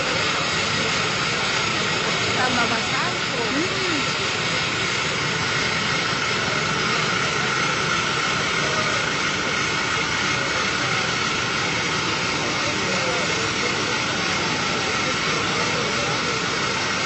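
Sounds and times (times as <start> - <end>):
engine running steadily: 0.0 - 17.0
hissing rush: 0.0 - 17.0.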